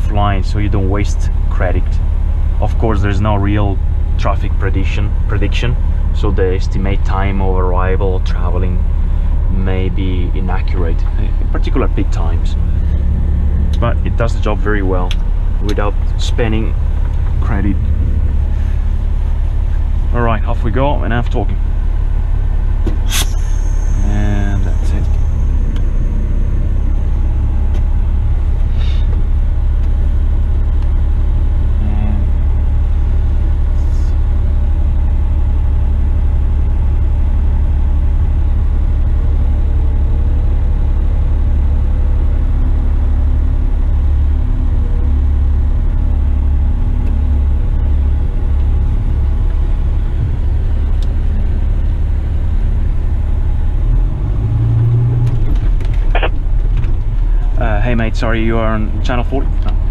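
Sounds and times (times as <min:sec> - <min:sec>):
truck diesel engine rumble: 0:00.0 - 0:59.9.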